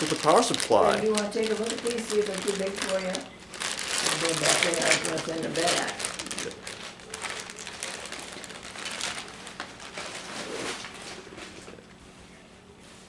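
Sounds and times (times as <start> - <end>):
gift packaging rustling: 0.0 - 11.6.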